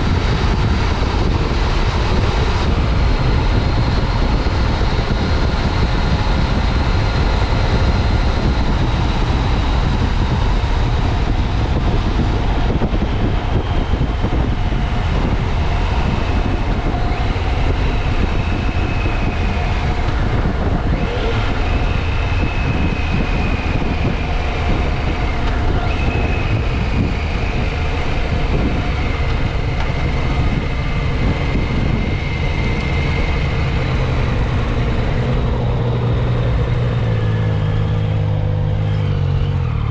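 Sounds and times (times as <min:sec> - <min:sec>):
motorcycle engine running: 0:00.0 - 0:39.9
whine shifting in pitch: 0:00.0 - 0:39.9
wind rush on microphone: 0:00.0 - 0:39.9.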